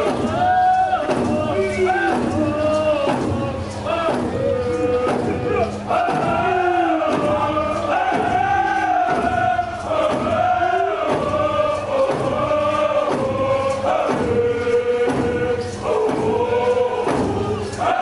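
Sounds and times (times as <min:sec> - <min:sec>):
group of voices chanting: 0:00.0 - 0:18.0
hand drums beating: 0:00.0 - 0:18.0.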